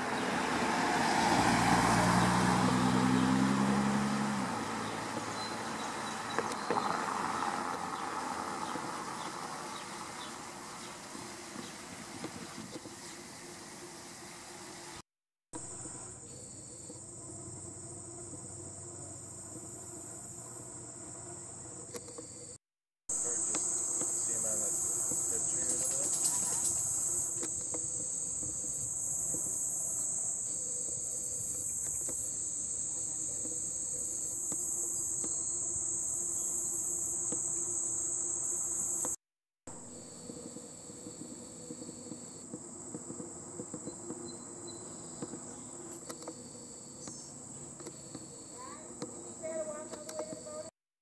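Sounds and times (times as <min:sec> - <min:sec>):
insects chorus whine: 0:00.0 - 0:15.0, 0:15.6 - 0:39.2, 0:39.8 - 0:50.7.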